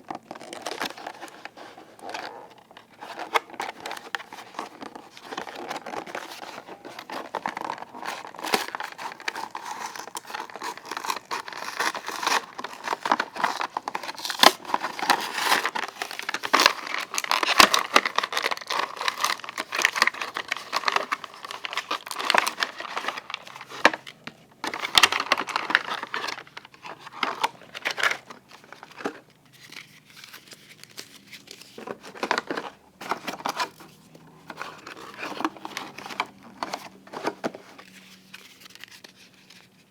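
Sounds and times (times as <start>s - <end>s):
packaging crinkling and tearing: 0.0s - 39.9s.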